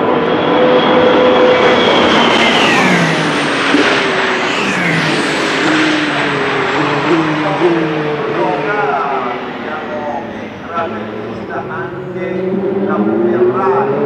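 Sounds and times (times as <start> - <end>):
racing car engine passing: 0.0 - 14.0.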